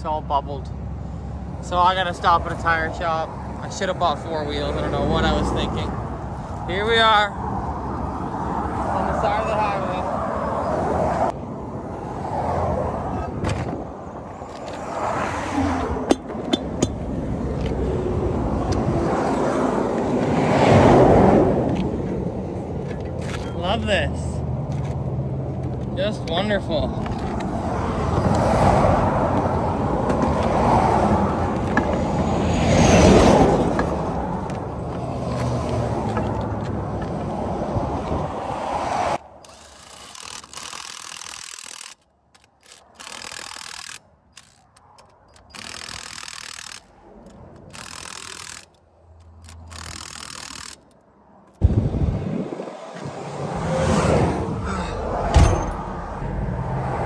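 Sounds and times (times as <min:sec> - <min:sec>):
highway traffic rushing past: 0:00.0 - 0:57.0
road noise inside vehicle cab: 0:00.0 - 0:57.0.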